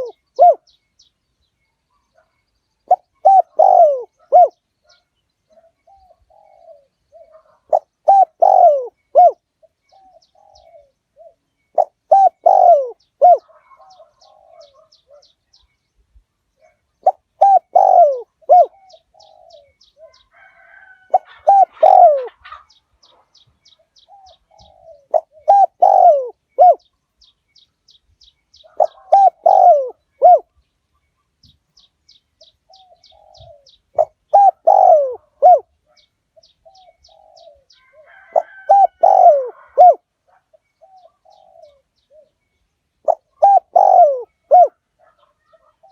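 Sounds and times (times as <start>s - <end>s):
dove cooing: 0.0s - 0.8s, 2.9s - 15.4s, 16.6s - 26.9s, 28.6s - 30.6s, 32.4s - 45.9s.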